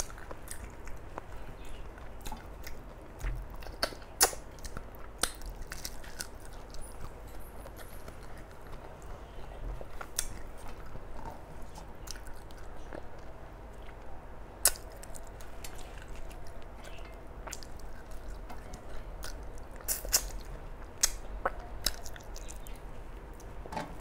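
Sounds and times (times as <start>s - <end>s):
person chewing: 0.0s - 23.6s.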